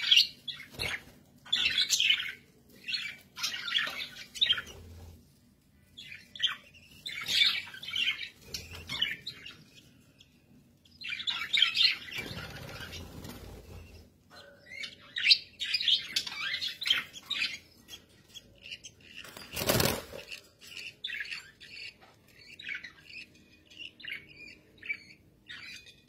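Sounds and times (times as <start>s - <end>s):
budgerigars chirping: 0.0s - 5.1s, 6.0s - 26.0s.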